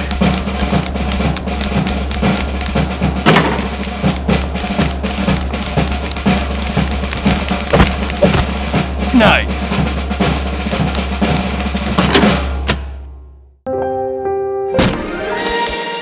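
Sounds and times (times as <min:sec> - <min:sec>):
drum-driven background music: 0:00.0 - 0:12.9.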